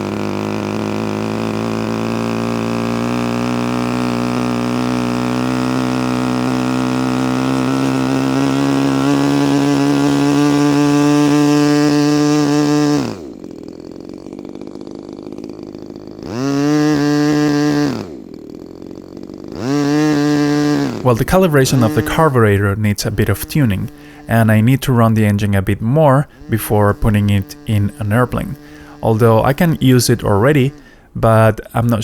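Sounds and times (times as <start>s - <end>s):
model airplane engine running: 0.0s - 32.0s.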